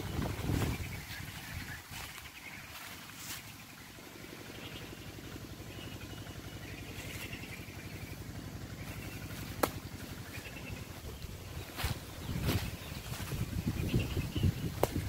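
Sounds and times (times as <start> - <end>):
faint birds chirping: 0.0 - 15.0
rapid low pulsing: 0.0 - 15.0.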